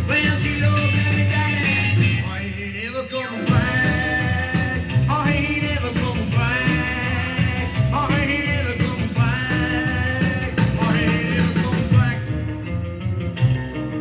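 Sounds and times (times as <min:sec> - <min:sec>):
rock and roll over loudspeakers: 0:00.0 - 0:14.0.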